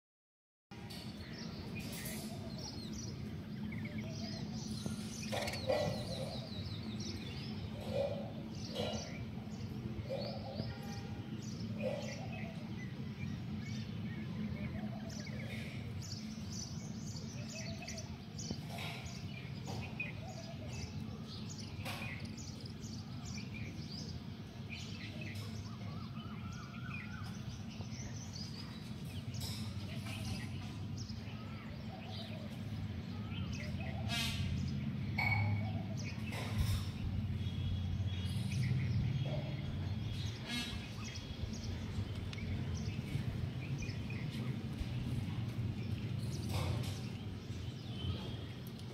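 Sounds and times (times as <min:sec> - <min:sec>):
birds chirping: 0:00.7 - 0:48.9.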